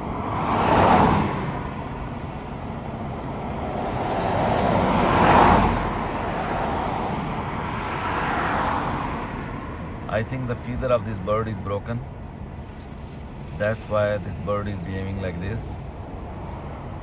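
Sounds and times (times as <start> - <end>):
vehicles passing close by: 0.0 - 17.0.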